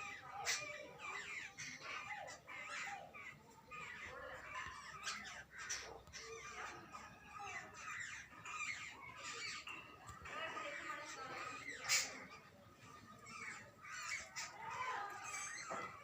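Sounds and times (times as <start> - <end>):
babblers chattering calls: 0.0 - 16.0.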